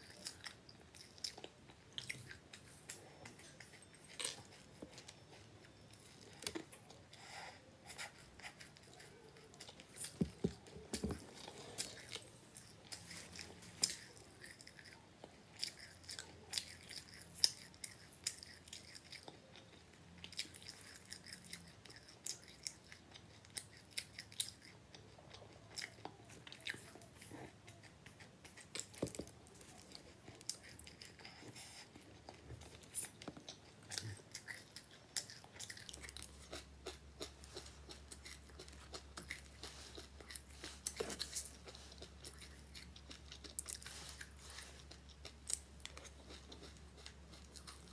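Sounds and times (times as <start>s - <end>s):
person chewing: 0.0s - 47.9s.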